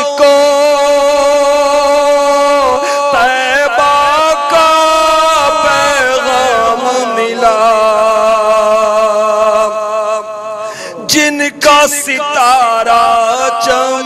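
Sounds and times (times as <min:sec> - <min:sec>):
man chanting without words: 0:00.0 - 0:14.0.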